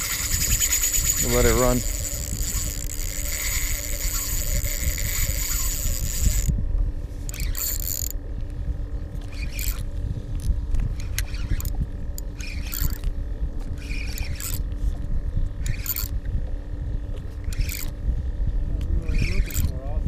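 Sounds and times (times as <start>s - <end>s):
fishing reel drag buzzing: 0.0s - 8.3s, 8.9s - 14.9s, 15.6s - 16.2s, 17.0s - 19.8s
wind rumble on microphone: 0.0s - 20.0s.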